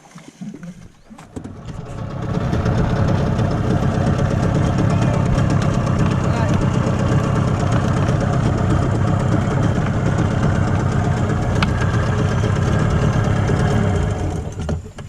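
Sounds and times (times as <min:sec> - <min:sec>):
small boat engine running: 0:00.8 - 0:15.0.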